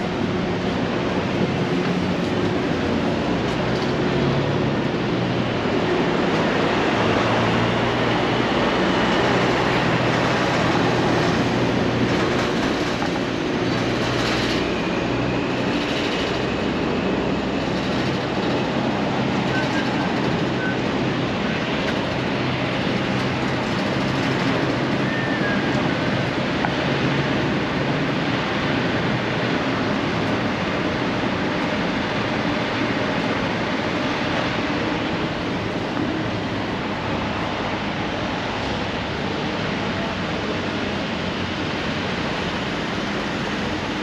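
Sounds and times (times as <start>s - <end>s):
traffic rumble: 0.0s - 44.0s.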